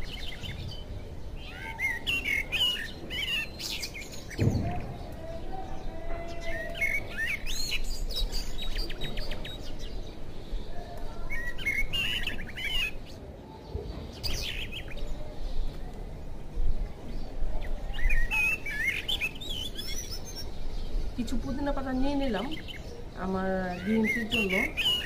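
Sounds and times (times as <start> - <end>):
birds chirping and trilling: 0.0 - 25.0.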